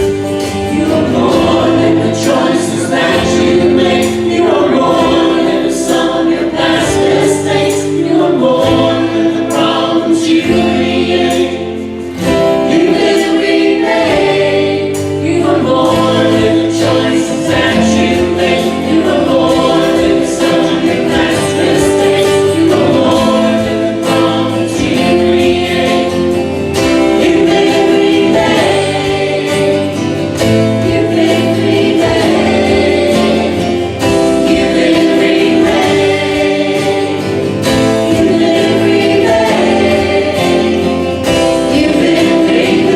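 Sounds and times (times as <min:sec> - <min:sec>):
choir singing a hymn: 0:00.0 - 0:42.9
instrumental accompaniment: 0:00.0 - 0:42.9.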